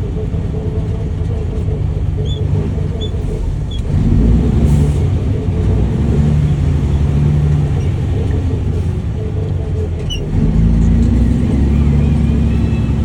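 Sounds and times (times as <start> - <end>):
diesel truck engine accelerating: 0.0 - 13.0.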